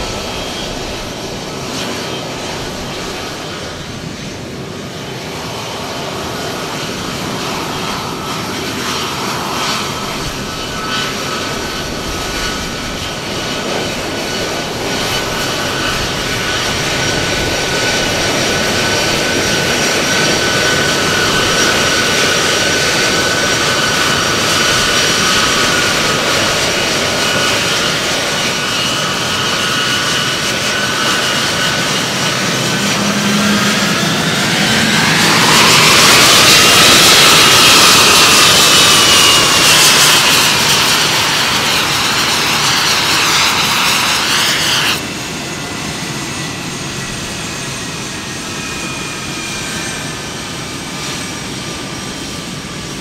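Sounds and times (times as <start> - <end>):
jet engines whining and whistling: 0.0 - 53.0
rushing roar of jet: 0.0 - 53.0.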